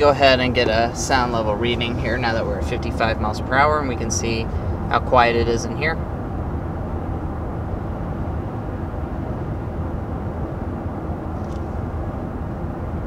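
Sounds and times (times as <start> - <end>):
road and wind noise in car cabin: 0.0 - 13.0.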